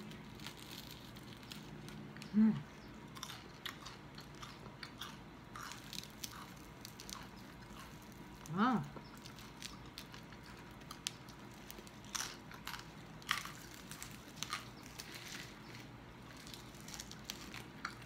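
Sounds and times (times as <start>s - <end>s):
crisp pork skin crackling: 0.0s - 2.3s, 3.0s - 18.0s.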